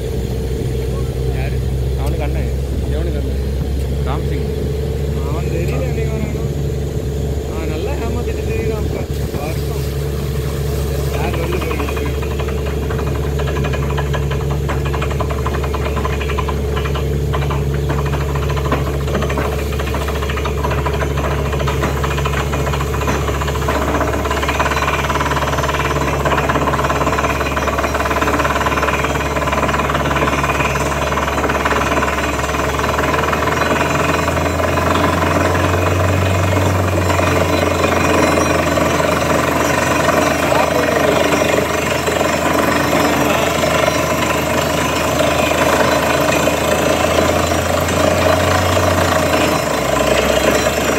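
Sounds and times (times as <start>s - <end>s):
rig engine and compressor drone: 0.0s - 50.9s
air hammer drilling rock: 5.1s - 50.9s.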